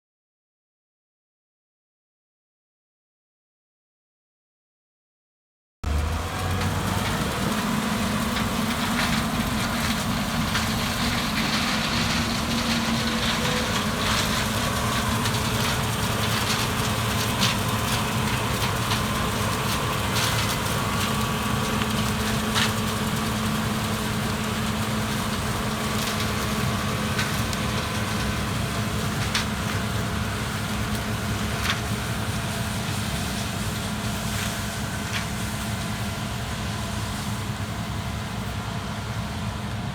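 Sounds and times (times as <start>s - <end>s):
large engine humming: 5.8s - 39.9s.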